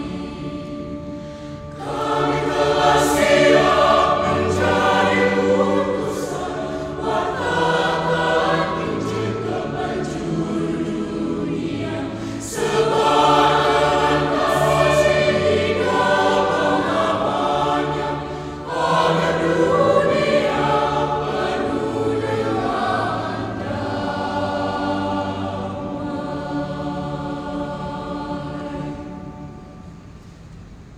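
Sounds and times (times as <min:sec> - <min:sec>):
choir singing chords: 0:00.0 - 0:30.6.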